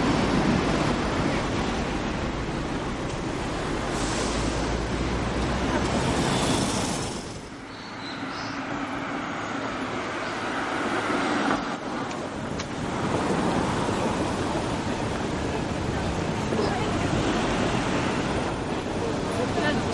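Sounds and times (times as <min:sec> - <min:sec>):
car engines passing: 0:00.0 - 0:19.9.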